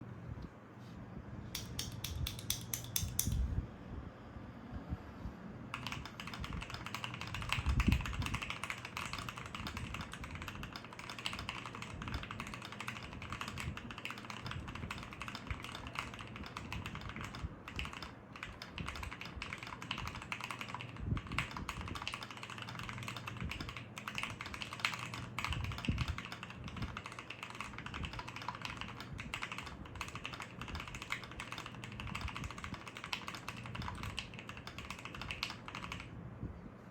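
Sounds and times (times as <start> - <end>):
mechanical keyboard typing: 1.6 - 3.4, 5.7 - 36.1.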